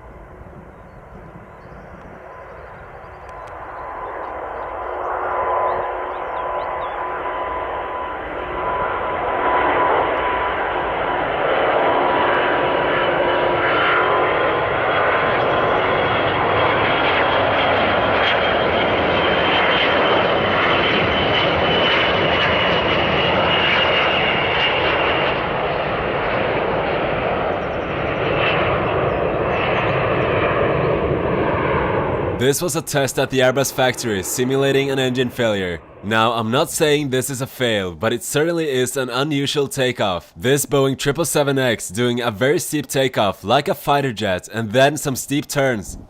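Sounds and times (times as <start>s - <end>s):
jet engine roar with high whine: 0.0s - 40.4s.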